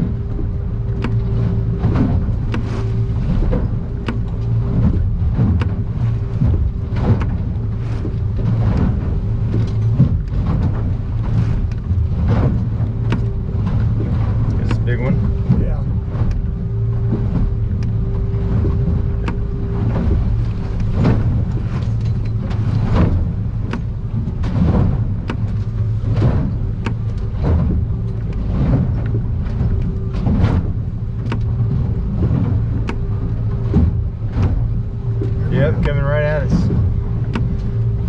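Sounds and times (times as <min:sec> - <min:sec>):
hull slapping on waves: 0:00.0 - 0:38.0
outboard engine drone: 0:00.0 - 0:38.0.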